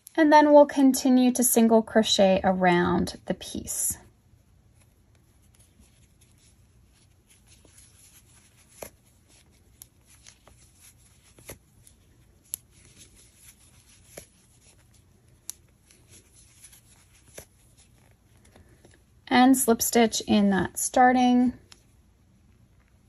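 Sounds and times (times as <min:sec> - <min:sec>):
yarn rustling and crochet hook: 0:03.4 - 0:21.9.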